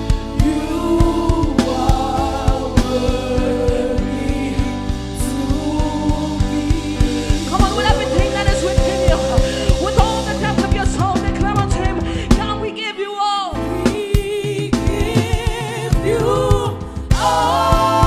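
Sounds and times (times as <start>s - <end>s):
gospel band playing: 0.0s - 18.0s
person singing: 0.0s - 18.0s.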